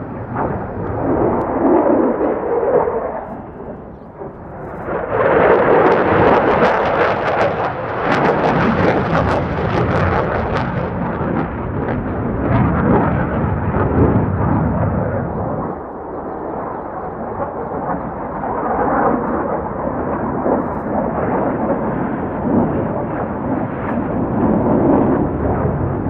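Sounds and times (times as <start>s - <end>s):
fighter jet engine roar: 0.0s - 26.0s.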